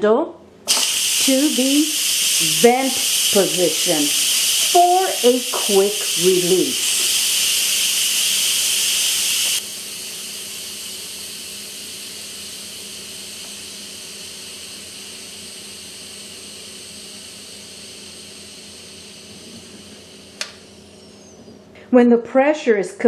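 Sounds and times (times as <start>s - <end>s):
pressure cooker steam hiss: 0.7s - 21.2s.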